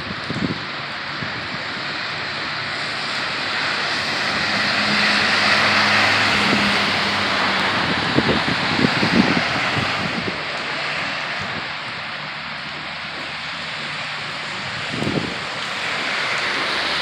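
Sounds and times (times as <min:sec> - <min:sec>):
heavy rain pouring: 0:00.0 - 0:17.0
vehicle engine hum: 0:00.0 - 0:17.0.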